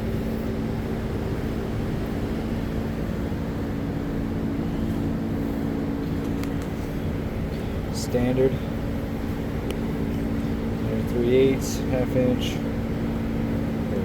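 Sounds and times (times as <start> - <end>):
mechanical drone with rumble: 0.0 - 14.0.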